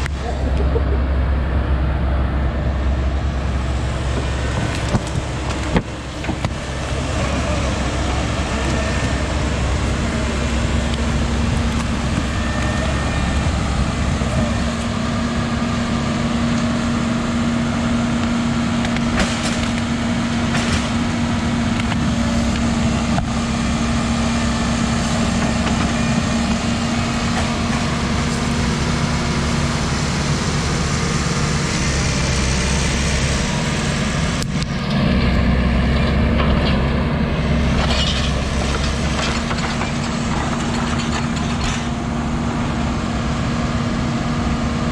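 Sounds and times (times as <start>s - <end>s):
diesel engine rumbling: 0.0s - 44.9s.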